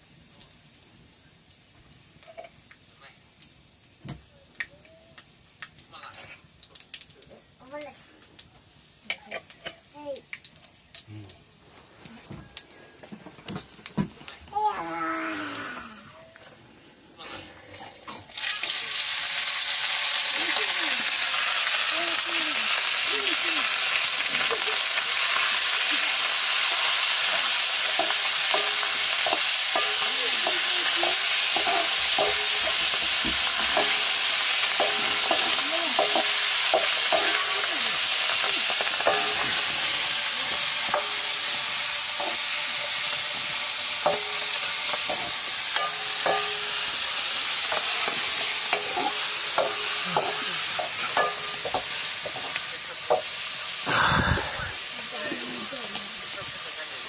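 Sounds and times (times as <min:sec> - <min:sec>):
food sizzling in a wok: 0:00.0 - 0:12.0, 0:14.5 - 0:57.0.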